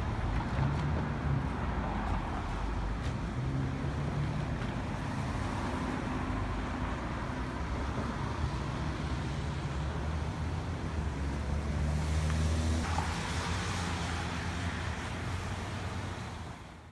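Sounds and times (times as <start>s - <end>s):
road traffic rumble: 0.0s - 16.9s.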